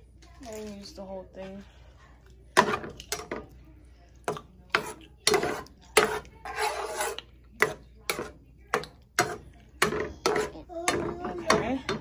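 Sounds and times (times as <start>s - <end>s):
spoon scraping a skillet: 0.4s - 3.5s, 4.2s - 12.0s.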